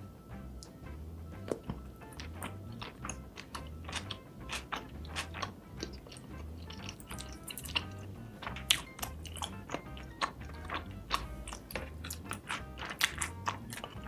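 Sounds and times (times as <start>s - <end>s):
soft background music: 0.0s - 14.0s
close chewing with mouth clicks: 1.4s - 14.0s.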